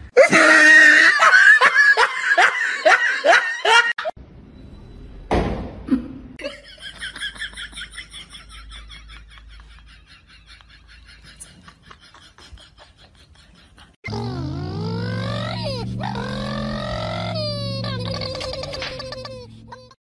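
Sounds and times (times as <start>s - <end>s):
person laughing hard: 0.2s - 4.1s, 5.9s - 14.2s, 15.2s - 20.0s.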